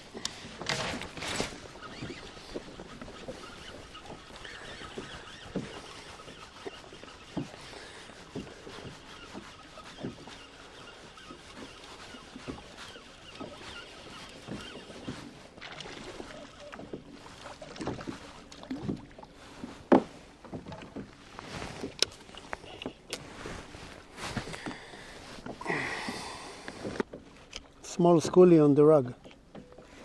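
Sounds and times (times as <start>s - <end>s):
water lapping against kayak hull: 0.0s - 30.0s.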